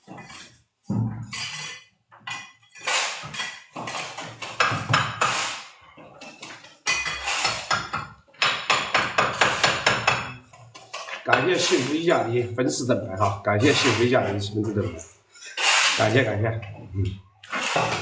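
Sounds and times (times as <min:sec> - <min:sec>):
tiles and tools clinking: 0:00.0 - 0:12.0, 0:13.2 - 0:18.0.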